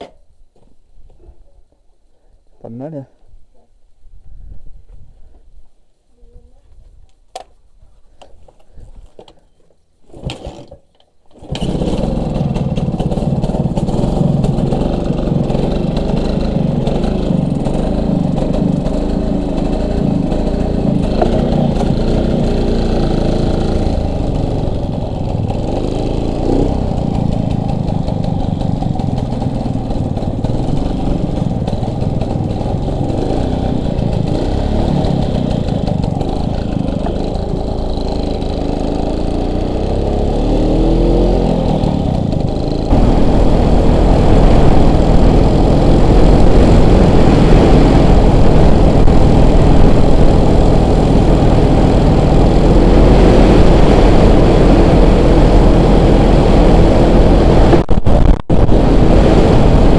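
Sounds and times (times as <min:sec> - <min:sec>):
motorcycle engine running loudly: 0:11.4 - 0:59.9.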